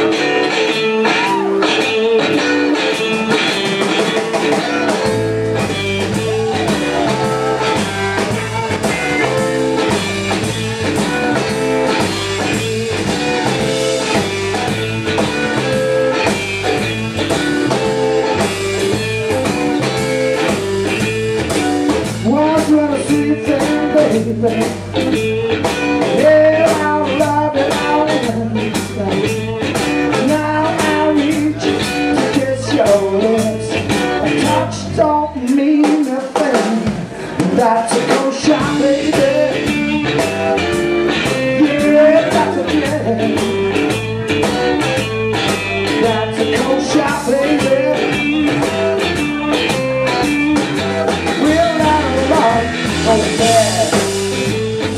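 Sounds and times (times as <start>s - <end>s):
electric bass: 0.0s - 35.8s, 36.4s - 54.9s
drum kit: 0.0s - 54.9s
electric guitar riffing: 0.0s - 54.9s.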